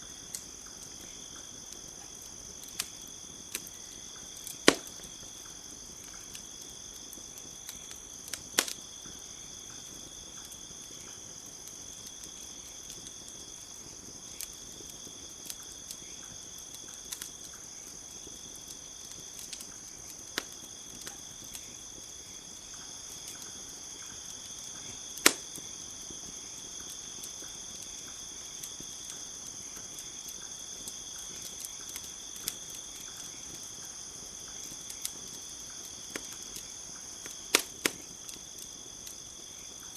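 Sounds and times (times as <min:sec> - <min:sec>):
campfire crackling and popping: 0:00.0 - 0:39.9
night insects chirping: 0:00.0 - 0:39.9.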